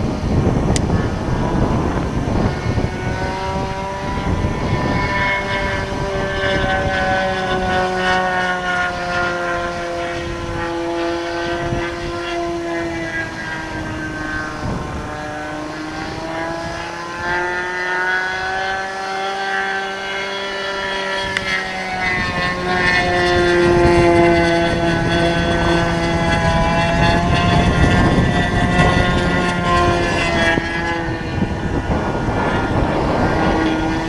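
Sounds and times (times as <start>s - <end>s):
model plane engine whine: 0.0s - 34.0s
wind buffeting microphone: 0.0s - 34.0s.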